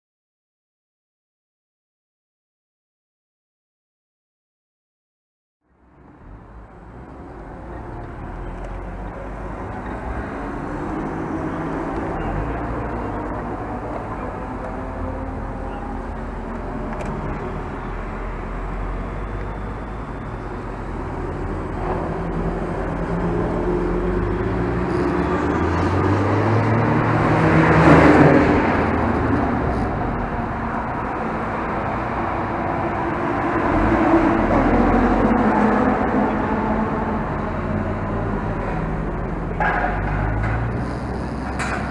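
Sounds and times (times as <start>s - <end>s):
wind and road noise: 5.7s - 41.9s
car engine accelerating hard: 6.3s - 41.9s.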